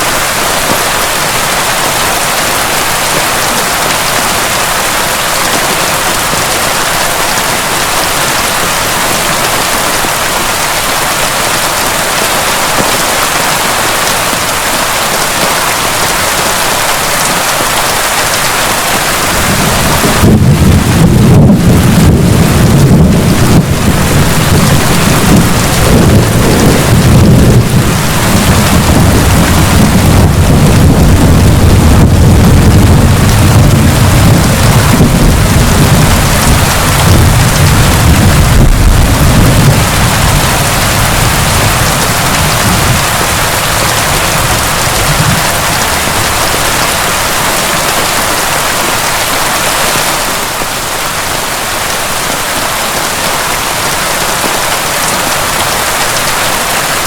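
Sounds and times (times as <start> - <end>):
thunder rumbling: 0.0 - 49.3
heavy rain: 0.0 - 57.0.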